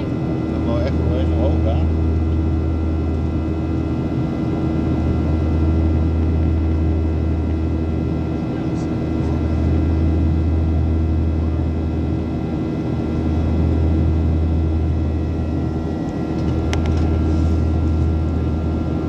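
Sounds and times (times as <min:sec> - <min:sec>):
jet engine drone in cabin: 0:00.0 - 0:19.0
thin steady whines: 0:00.0 - 0:19.0.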